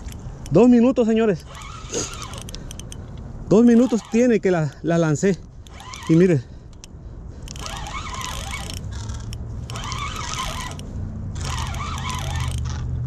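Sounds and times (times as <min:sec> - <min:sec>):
fishing reel cranking: 0:00.0 - 0:13.0.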